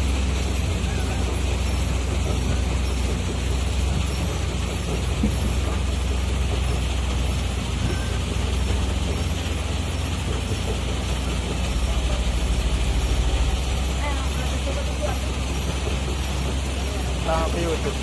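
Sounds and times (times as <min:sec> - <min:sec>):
large diesel engine running: 0:00.0 - 0:18.0.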